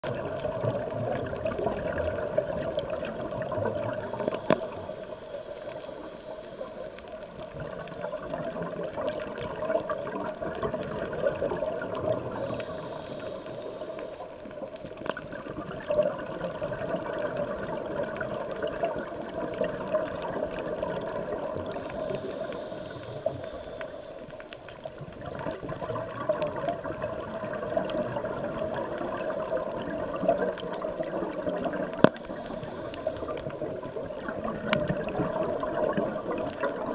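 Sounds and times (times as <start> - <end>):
underwater wash with bubbling: 0.0 - 36.9.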